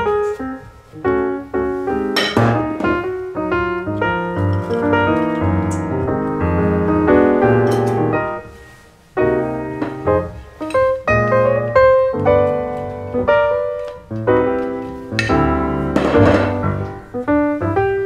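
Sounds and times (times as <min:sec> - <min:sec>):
lively piano music: 0:00.0 - 0:18.0.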